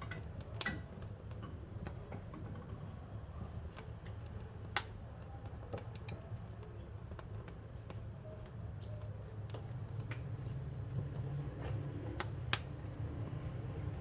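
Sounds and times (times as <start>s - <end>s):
low rumble from firebox: 0.1s - 14.0s.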